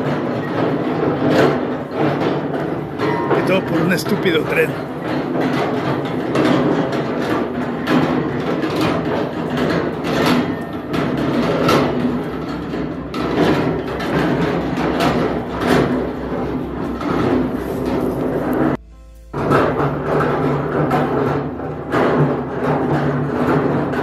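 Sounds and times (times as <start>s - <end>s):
construction rumble: 0.0s - 24.0s
heavy knocks: 0.0s - 24.0s.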